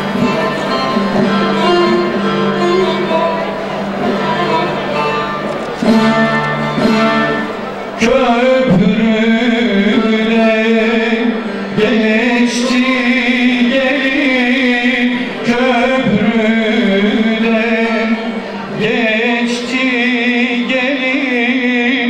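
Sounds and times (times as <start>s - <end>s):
long-necked lute playing: 0.0s - 22.0s.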